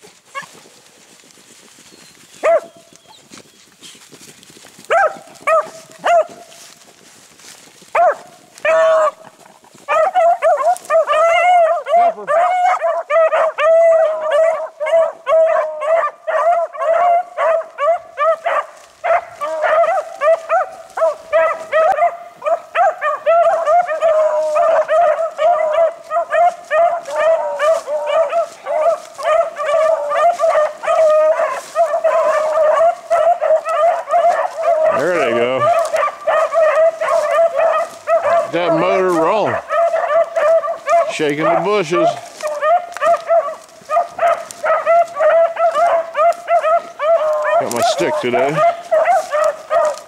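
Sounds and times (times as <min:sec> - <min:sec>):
hounds baying: 0:00.0 - 0:50.0.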